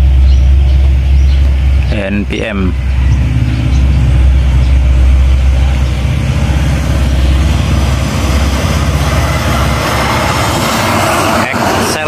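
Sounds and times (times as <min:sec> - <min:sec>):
diesel engine rumble: 0:00.0 - 0:12.0
tyre and road noise: 0:00.0 - 0:12.0.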